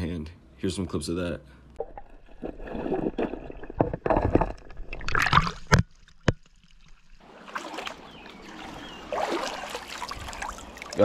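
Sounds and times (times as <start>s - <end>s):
water sloshing and churning: 1.8s - 11.0s.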